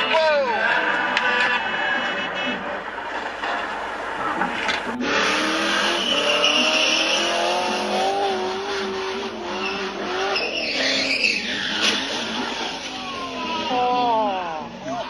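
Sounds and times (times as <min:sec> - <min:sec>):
car engine revving: 0:00.0 - 0:15.0
tyres squealing and skidding: 0:00.0 - 0:15.0.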